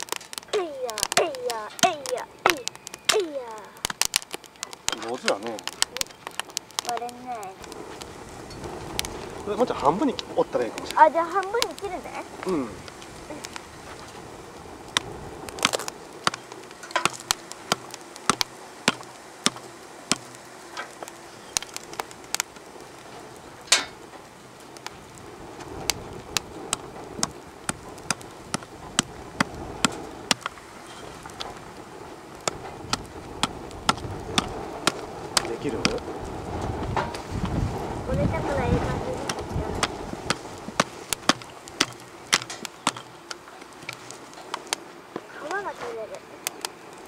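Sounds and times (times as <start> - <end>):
low hiss of burning fire: 0.0 - 47.0
wood fire crackling and popping: 0.0 - 47.0.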